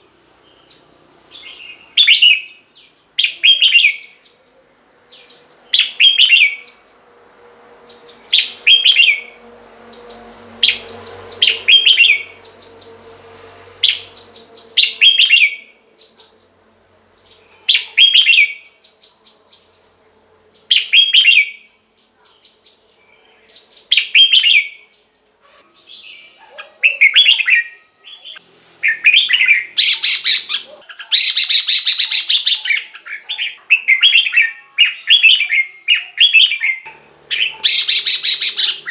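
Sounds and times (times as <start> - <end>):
bird singing warbled phrases: 0.0 - 6.8, 7.9 - 13.0, 13.8 - 16.5, 17.2 - 19.7, 20.6 - 38.9.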